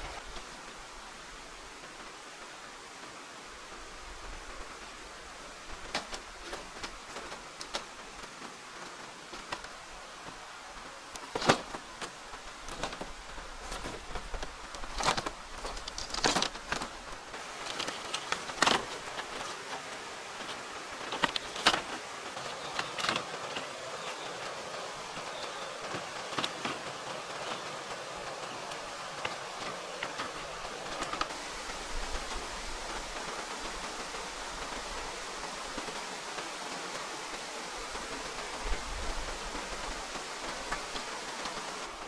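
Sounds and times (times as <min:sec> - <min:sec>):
background hiss: 0:00.0 - 0:42.0.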